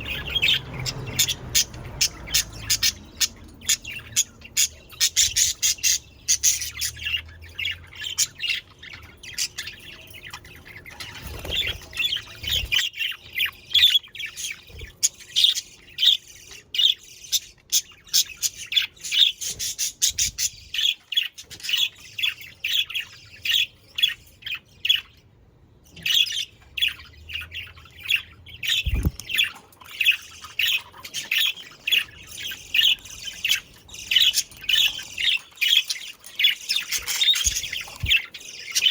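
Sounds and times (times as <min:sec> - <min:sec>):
budgerigars chattering: 0:00.0 - 0:25.2, 0:25.9 - 0:38.9.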